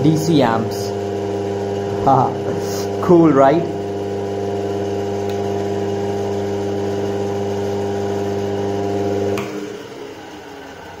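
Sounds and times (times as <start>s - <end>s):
electrical motor hum: 0.0s - 11.0s
motor running down: 0.0s - 11.0s.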